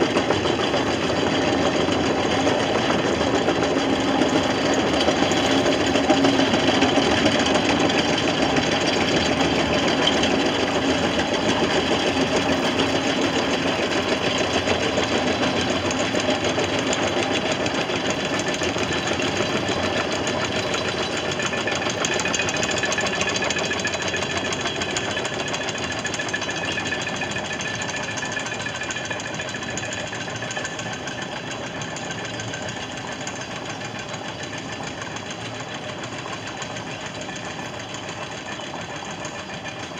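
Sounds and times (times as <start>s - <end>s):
chain clattering through winch: 0.0s - 39.9s.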